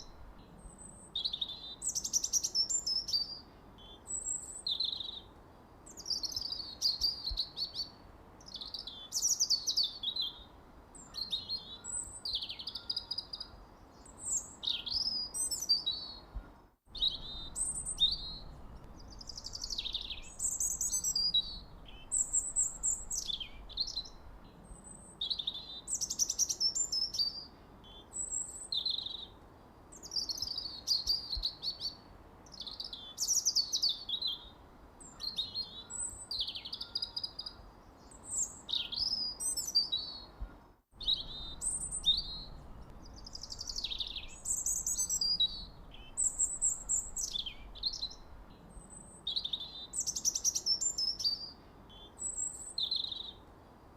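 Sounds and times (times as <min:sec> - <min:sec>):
songbirds chirping and singing: 0:05.9 - 0:29.4, 0:30.0 - 0:53.4.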